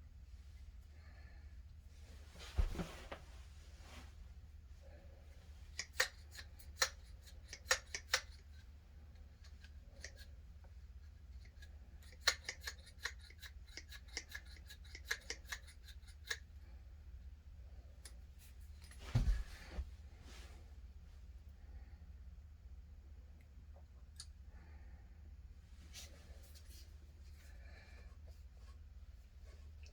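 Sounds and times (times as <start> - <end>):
faint low hum: 0.0 - 29.9.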